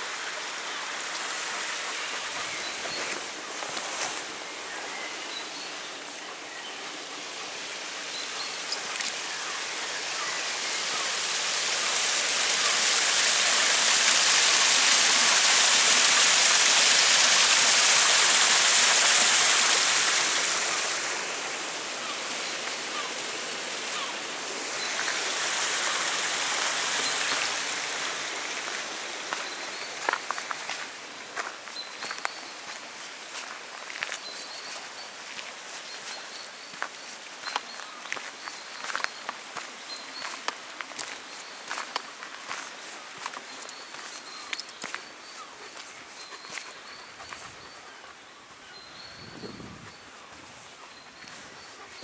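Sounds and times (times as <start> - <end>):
stream splashing over boulders: 0.0 - 6.2, 6.8 - 47.4.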